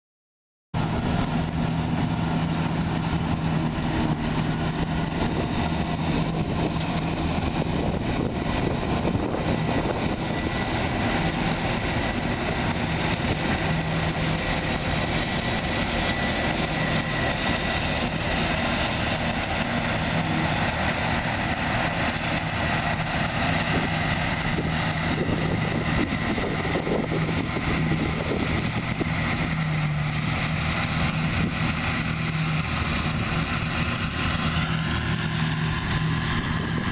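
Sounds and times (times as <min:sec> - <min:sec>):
combine diesel engine running: 0:00.8 - 0:36.9
threshing machinery turning: 0:00.8 - 0:36.9.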